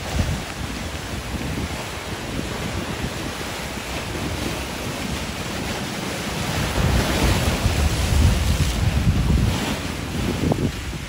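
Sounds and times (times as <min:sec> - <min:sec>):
surf washing against concrete: 0:00.0 - 0:11.0
wind buffeting microphone: 0:00.0 - 0:11.0.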